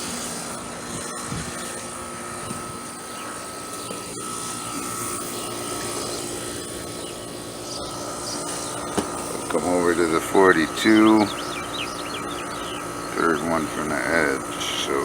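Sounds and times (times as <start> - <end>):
air conditioner unit whirring: 0.0 - 15.0.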